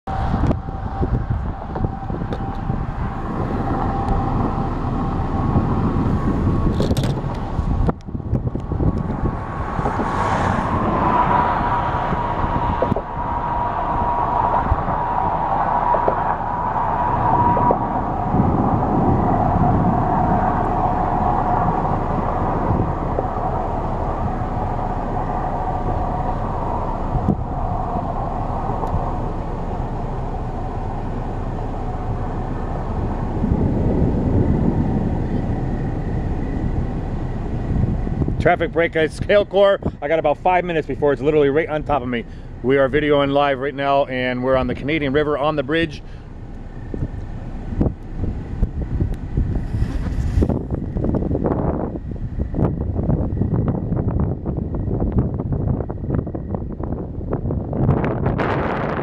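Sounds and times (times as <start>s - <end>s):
high hum: 0.0s - 59.0s
road traffic rumble: 0.0s - 59.0s.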